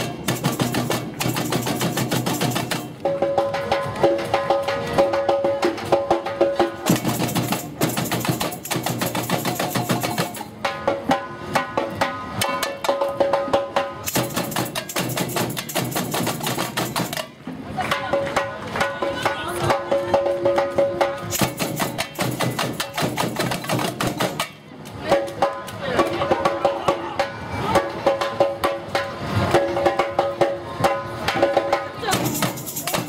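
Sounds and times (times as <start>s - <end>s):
percussion band drumming: 0.0s - 33.0s.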